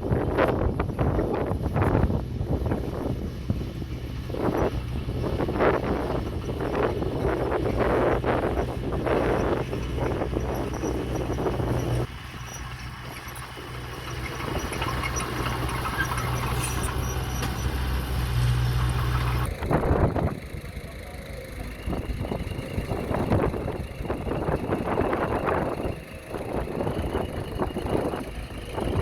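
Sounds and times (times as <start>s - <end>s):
heavy machine engine humming: 0.0s - 29.0s.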